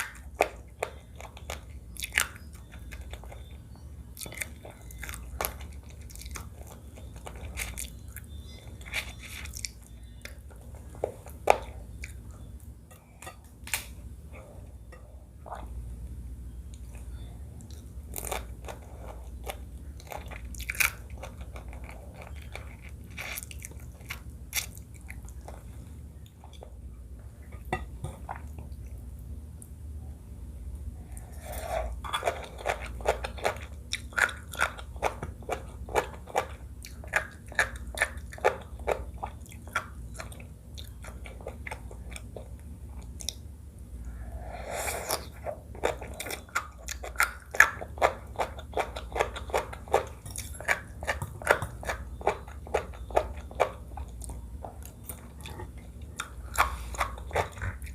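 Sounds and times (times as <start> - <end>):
person chewing crunchy food: 0.0 - 3.6, 4.2 - 14.7, 16.8 - 26.8, 31.0 - 43.4, 44.0 - 57.9.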